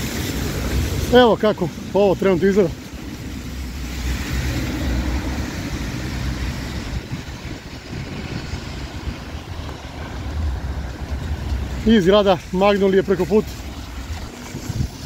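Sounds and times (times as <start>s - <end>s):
traffic hiss on wet streets: 0.0s - 15.0s
wind buffeting microphone: 0.0s - 15.0s.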